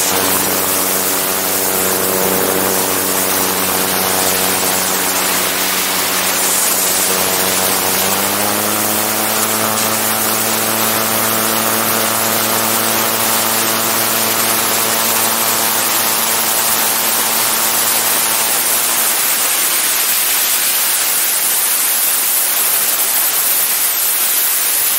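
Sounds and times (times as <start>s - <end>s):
aircraft engine and propeller droning: 0.0s - 21.1s.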